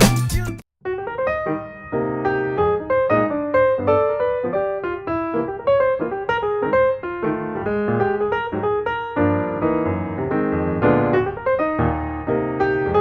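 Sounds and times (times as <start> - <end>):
piano background music: 0.0 - 13.0.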